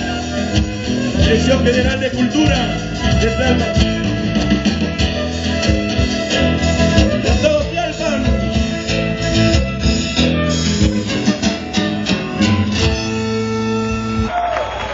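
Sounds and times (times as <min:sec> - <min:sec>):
plucked strings: 0:00.0 - 0:14.3
live band music: 0:00.0 - 0:14.4.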